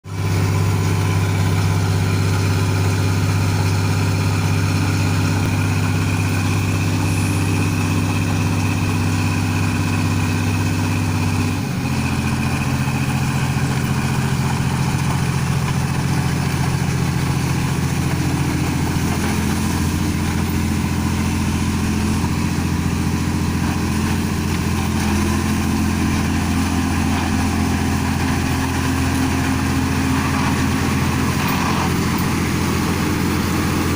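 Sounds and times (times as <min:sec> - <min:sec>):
harvesting machine engine running: 0:00.1 - 0:33.9.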